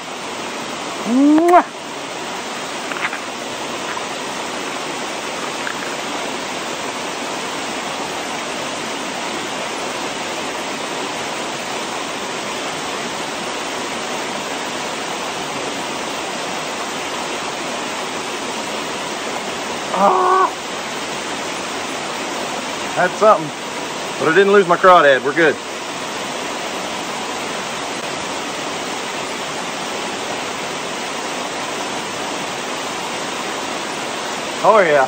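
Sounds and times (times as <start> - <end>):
water rushing over stone dam: 0.0 - 35.0.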